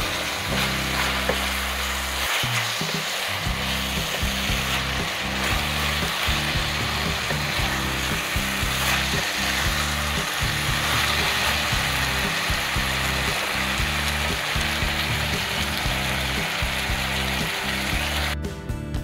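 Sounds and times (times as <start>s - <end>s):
mushrooms sizzling in a pan: 0.0s - 18.4s
background music: 0.0s - 19.0s.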